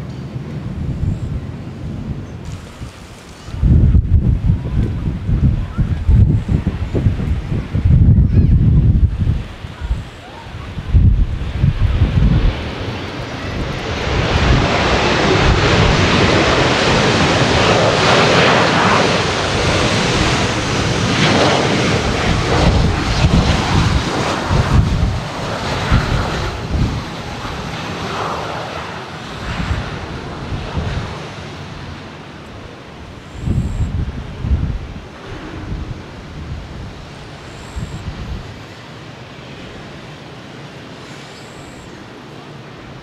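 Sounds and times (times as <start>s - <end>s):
wind buffeting microphone: 0.0s - 38.7s
jet airliner passing: 0.0s - 43.0s.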